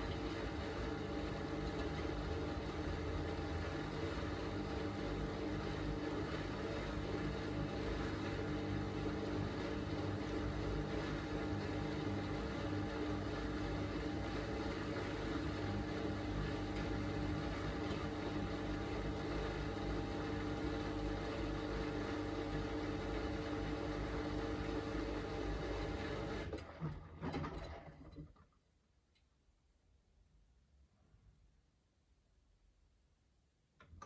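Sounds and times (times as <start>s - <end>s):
washing machine motor hum: 0.0s - 28.3s.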